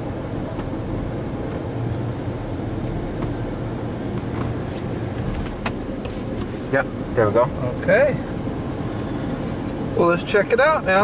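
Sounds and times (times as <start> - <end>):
muffled car wash rumble: 0.0 - 11.0.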